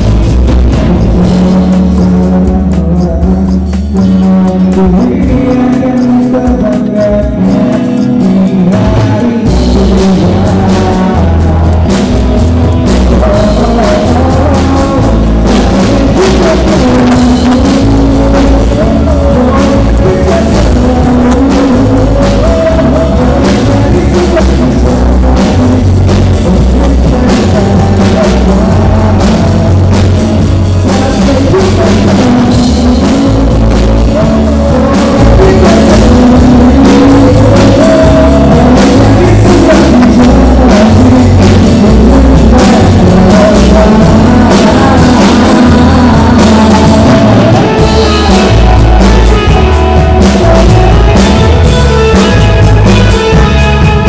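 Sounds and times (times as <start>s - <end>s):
person singing: 0.0s - 54.0s
rock band playing: 0.0s - 54.0s.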